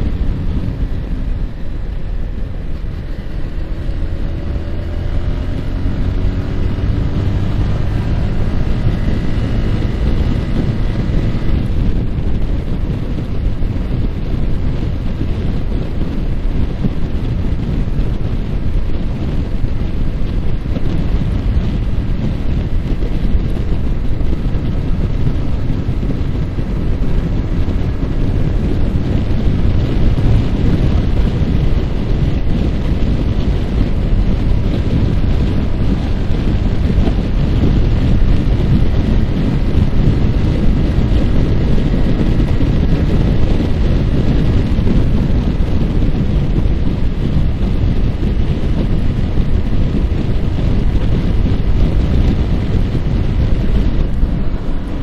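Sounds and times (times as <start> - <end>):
motorcycle engine cruising: 0.0 - 55.0
wind buffeting microphone: 0.0 - 55.0.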